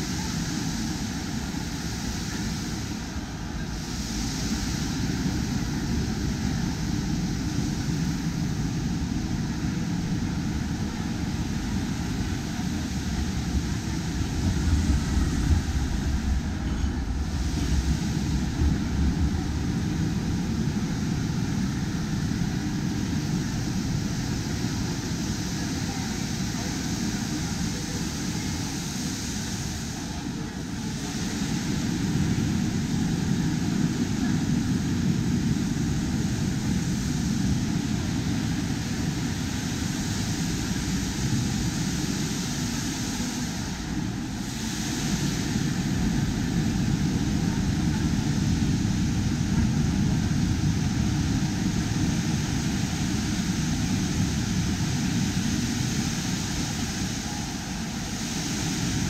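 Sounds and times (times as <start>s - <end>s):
steady low rumbling: 0.0s - 59.0s.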